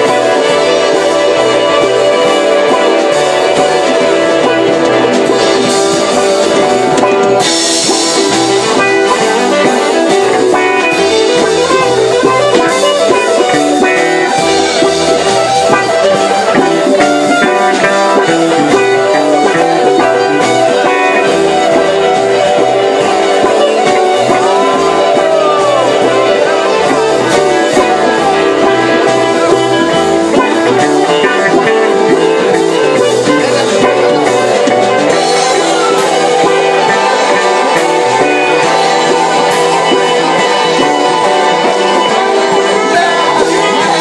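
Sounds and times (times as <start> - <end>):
guitar: 0.0 - 44.0
live band playing: 0.0 - 44.0.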